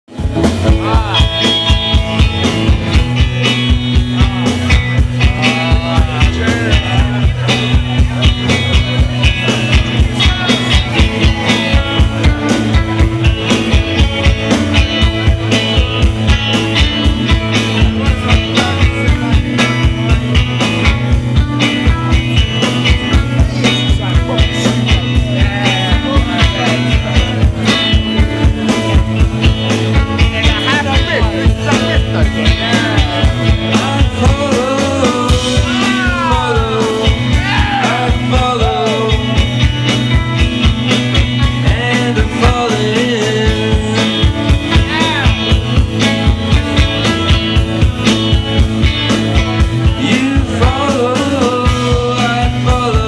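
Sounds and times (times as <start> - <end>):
rock band playing live: 0.1 - 53.0.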